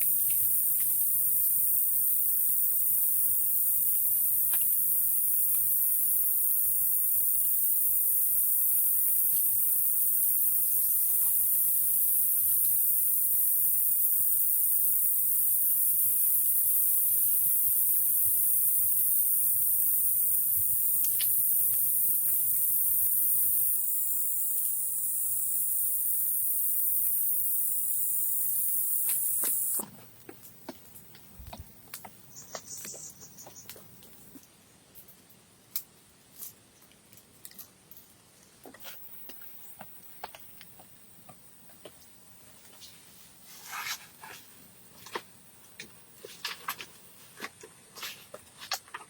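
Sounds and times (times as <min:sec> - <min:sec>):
insect chorus droning: 0:00.0 - 0:34.5, 0:38.8 - 0:49.0.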